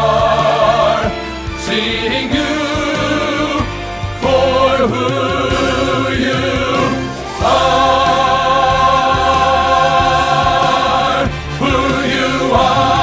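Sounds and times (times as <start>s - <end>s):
choir singing with accompaniment: 0.0s - 13.0s.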